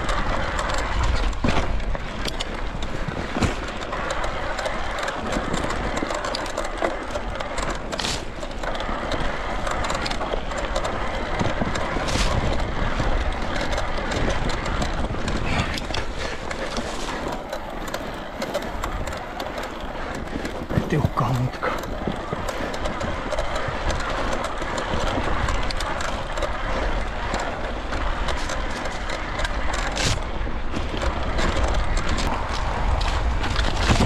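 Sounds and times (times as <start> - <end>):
bike rattling and knocking: 0.0 - 34.0
tyre and wind noise: 0.0 - 34.0.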